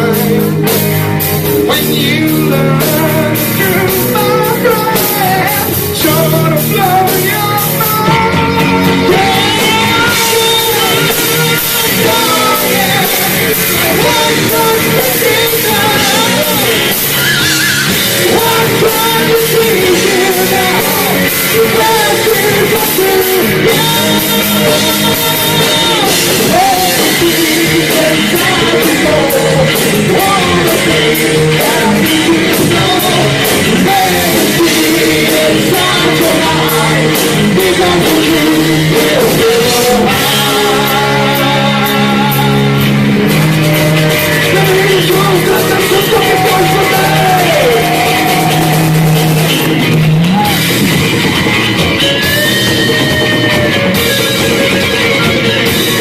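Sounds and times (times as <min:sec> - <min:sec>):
heavy metal band playing: 0:00.0 - 0:56.0
person singing: 0:00.0 - 0:56.0.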